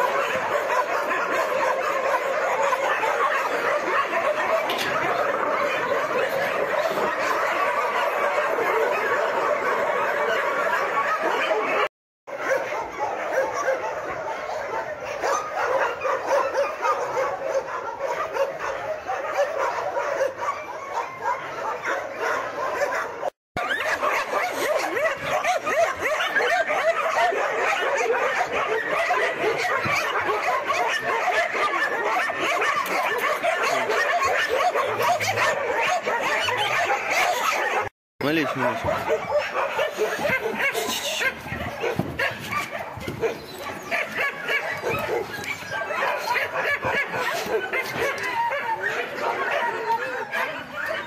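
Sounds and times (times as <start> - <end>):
many dogs barking and yelping: 0.0 - 51.0.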